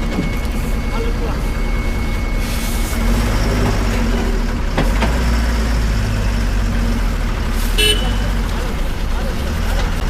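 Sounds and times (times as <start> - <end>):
heavy vehicle engine droning: 0.0 - 10.0.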